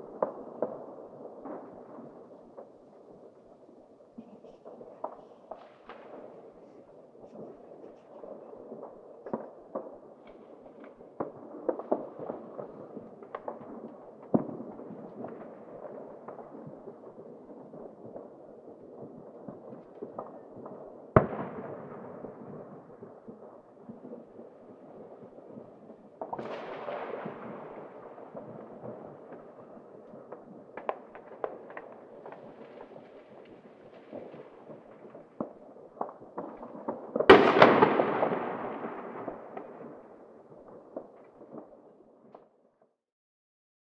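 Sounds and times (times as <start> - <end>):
distant fireworks bangs and pops: 0.0 - 42.5
firecrackers crackling: 0.0 - 42.5.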